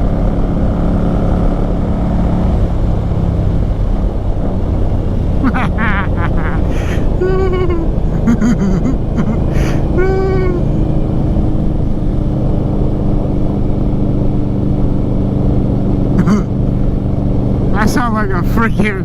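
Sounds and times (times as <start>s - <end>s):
motorcycle engine riding: 0.0s - 19.0s
road and wind rush: 0.0s - 19.0s.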